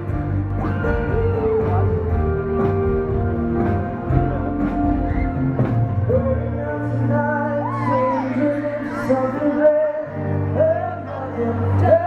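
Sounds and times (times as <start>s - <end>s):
live pop band playing: 0.0s - 12.0s
man singing: 0.0s - 12.0s.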